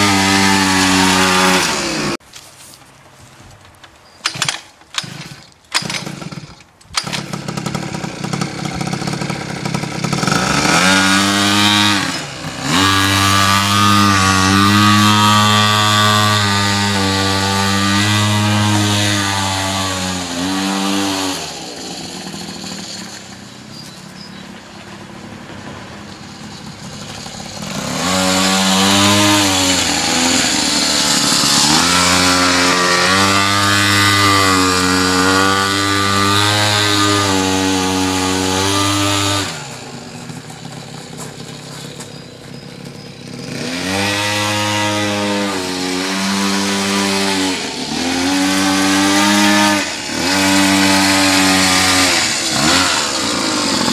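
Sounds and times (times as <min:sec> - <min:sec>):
small two-stroke engine revving: 0:00.0 - 0:02.2, 0:04.2 - 0:53.9.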